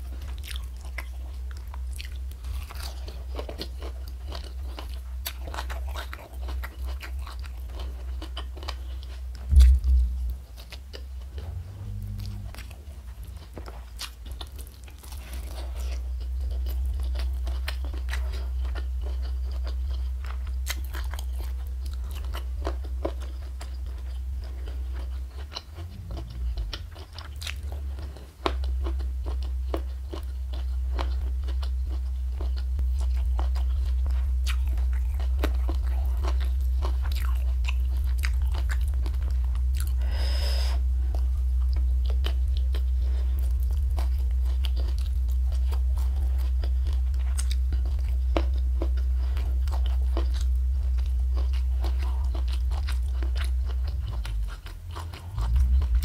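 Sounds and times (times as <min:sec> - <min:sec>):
crunching and chewing crisp food: 0:00.0 - 0:56.0
steady low hum: 0:00.0 - 0:56.0.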